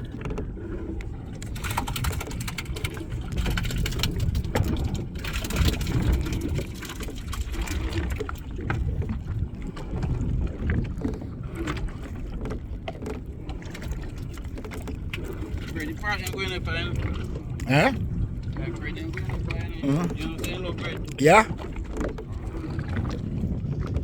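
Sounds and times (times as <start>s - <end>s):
rumbling wind: 0.0s - 15.8s, 16.9s - 24.0s
water noise: 0.0s - 24.0s.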